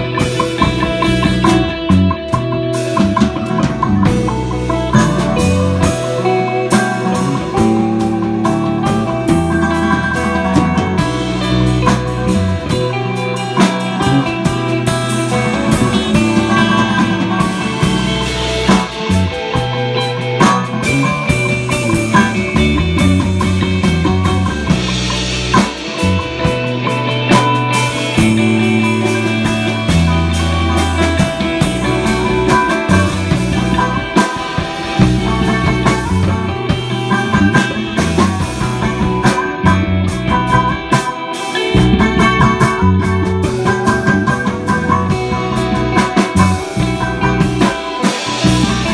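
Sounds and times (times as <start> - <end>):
bass guitar line: 0.0 - 48.9
cigar box guitar: 0.0 - 48.9
drum kit hits: 0.0 - 48.9
electric guitar: 0.0 - 48.9.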